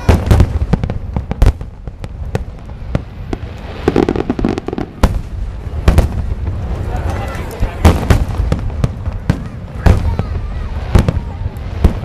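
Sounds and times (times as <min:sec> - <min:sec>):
firework shells bursting: 0:00.0 - 0:10.2.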